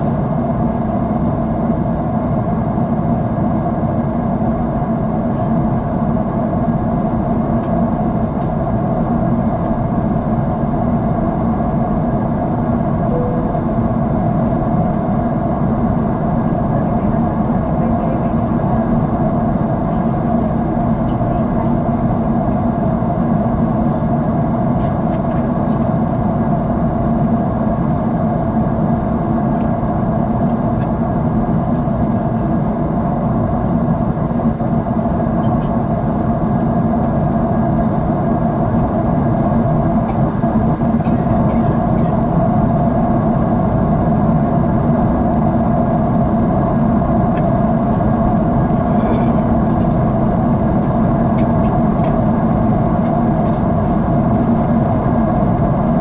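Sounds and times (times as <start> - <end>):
airliner cabin engine hum: 0.0 - 56.0.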